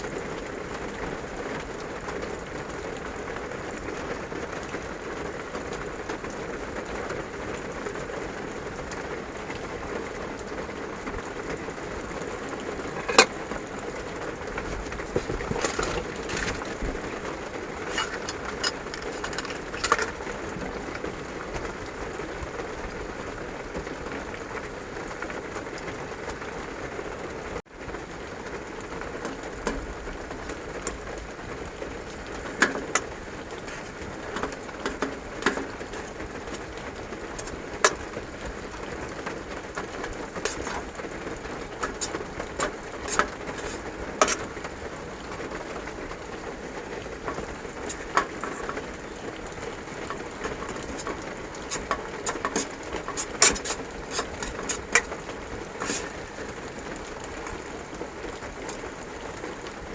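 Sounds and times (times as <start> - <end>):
heavy rain on a vehicle roof: 0.0 - 59.9.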